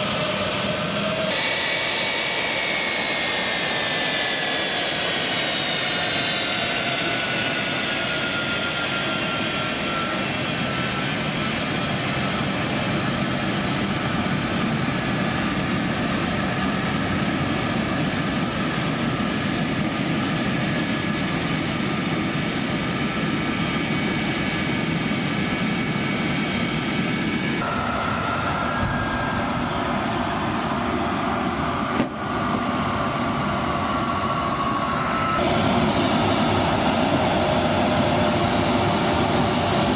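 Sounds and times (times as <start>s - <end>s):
jet engines with whine: 0.0s - 39.9s.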